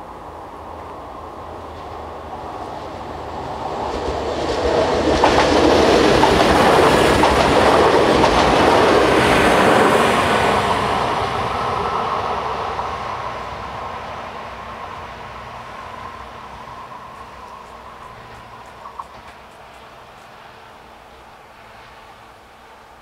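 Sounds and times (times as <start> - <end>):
diesel train running past: 0.0 - 23.0.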